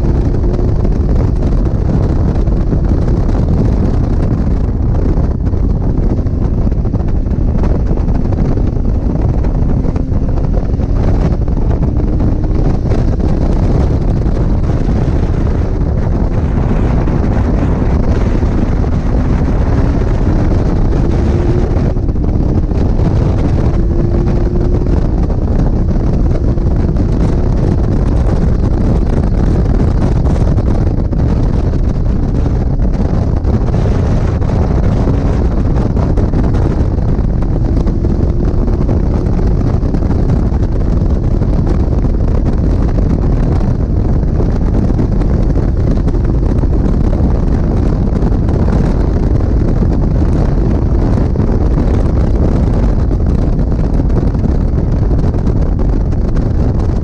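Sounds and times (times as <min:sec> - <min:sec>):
car engine accelerating: 0:00.0 - 0:53.6
wind buffeting microphone: 0:00.0 - 0:57.0.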